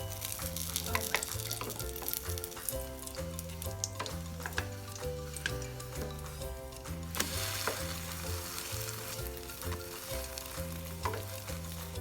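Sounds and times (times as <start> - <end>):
background music with bass line: 0.0 - 12.0
batter sizzling in frying pan: 0.0 - 12.0.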